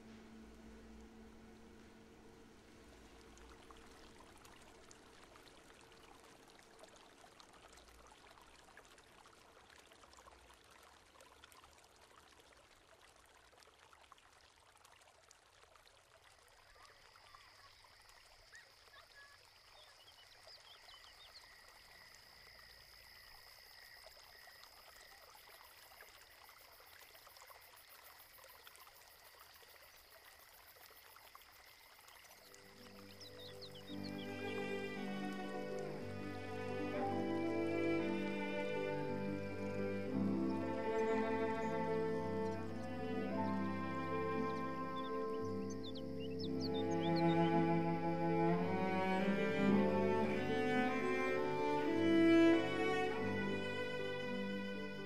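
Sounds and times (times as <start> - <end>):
faint trickling hiss: 0.0 - 55.0.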